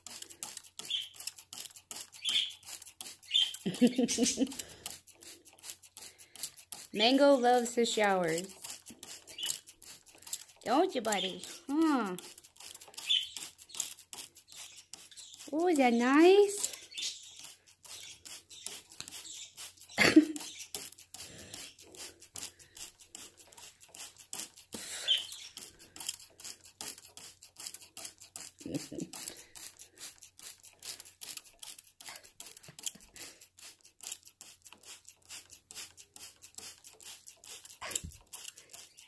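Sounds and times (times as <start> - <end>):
spray bottle squirting: 0.0 - 39.0.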